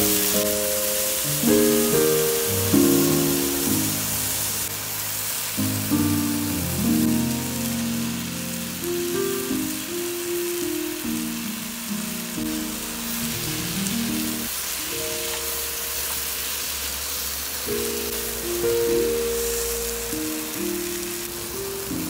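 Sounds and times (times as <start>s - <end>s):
slow melodic background music: 0.0s - 16.8s, 17.6s - 22.0s
food sizzling in oil: 0.0s - 22.0s.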